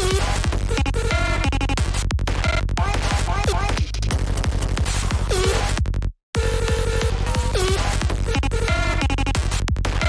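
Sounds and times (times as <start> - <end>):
bassline: 0.0 - 10.0
kick drum: 0.0 - 10.0.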